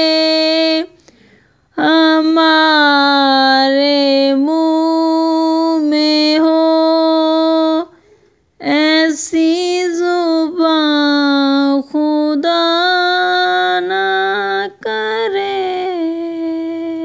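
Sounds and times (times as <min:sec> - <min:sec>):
person singing long melodic notes: 0:00.0 - 0:01.0, 0:01.7 - 0:08.0, 0:08.6 - 0:17.0.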